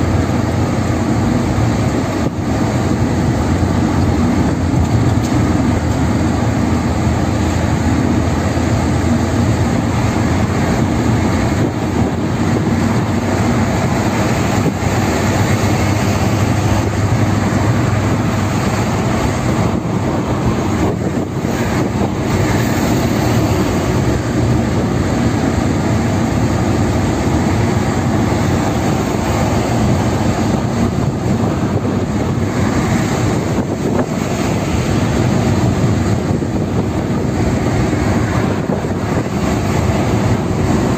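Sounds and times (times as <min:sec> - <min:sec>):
low engine hum: 0:00.0 - 0:40.9
tyre and road noise: 0:00.0 - 0:40.9.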